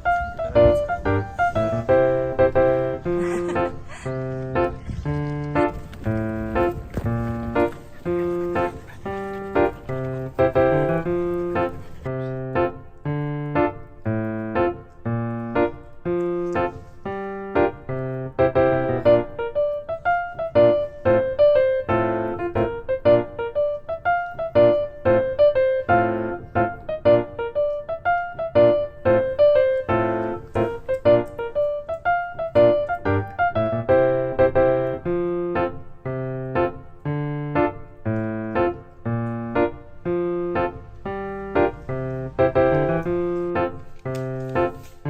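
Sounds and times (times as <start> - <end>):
piano melody: 0.0 - 45.0.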